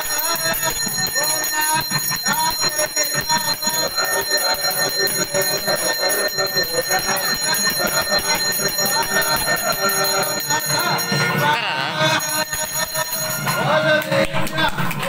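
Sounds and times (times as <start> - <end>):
bells ringing rapidly: 0.0 - 15.0.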